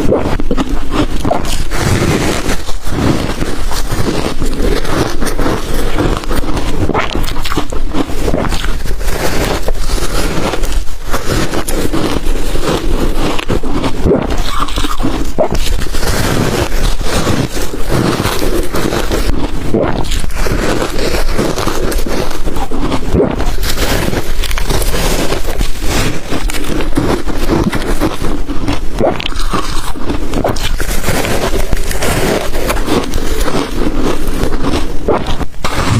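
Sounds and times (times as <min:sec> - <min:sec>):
ice being crunched: 0:00.0 - 0:35.9.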